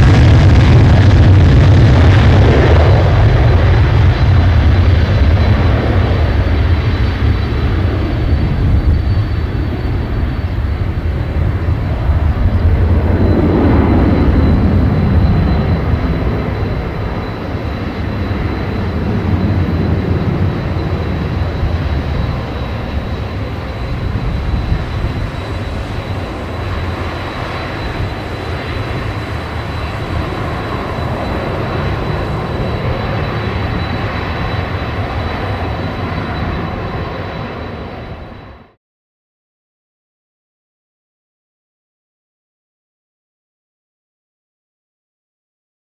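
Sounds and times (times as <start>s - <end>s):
high steady whine: 0.0s - 38.8s
jet engines rumbling: 0.0s - 38.8s.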